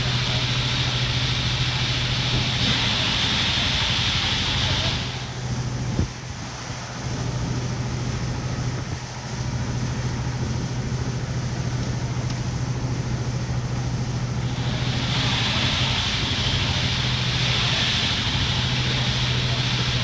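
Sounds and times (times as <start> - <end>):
steady hiss: 0.0 - 10.4, 11.2 - 20.0
engine running with low hum: 0.0 - 20.0.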